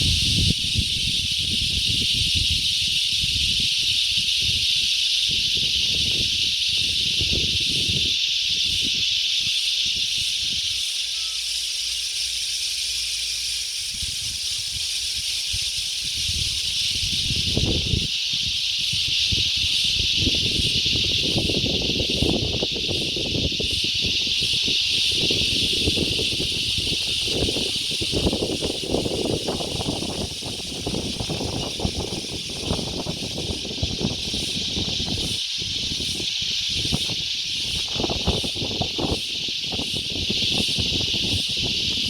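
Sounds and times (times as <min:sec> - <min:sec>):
wind buffeting microphone: 0:00.0 - 0:10.8, 0:13.8 - 0:42.0
high-pitched insect chorus: 0:00.0 - 0:42.0.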